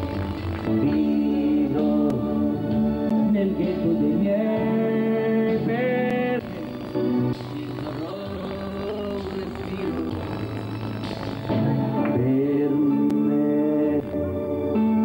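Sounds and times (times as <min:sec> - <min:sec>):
man singing pop song: 0:00.0 - 0:15.0
musical backing: 0:00.0 - 0:15.0.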